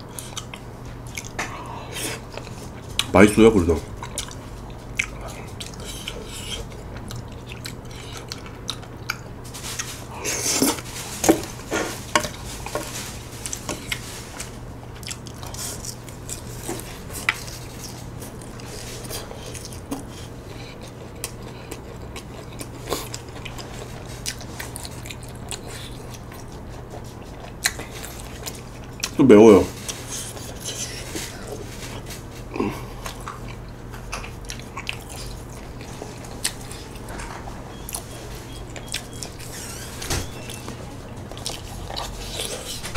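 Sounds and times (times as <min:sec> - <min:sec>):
chewing with wet mouth sounds: 0:00.0 - 0:42.9.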